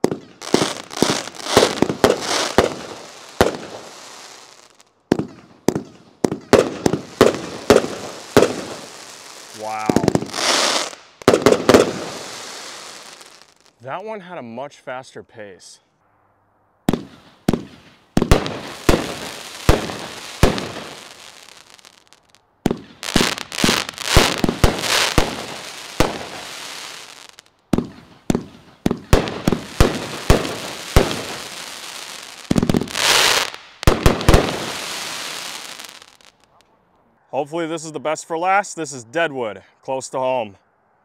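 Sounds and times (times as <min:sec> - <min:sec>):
firework shots and aerial bursts: 0:00.0 - 0:13.8, 0:16.8 - 0:36.5.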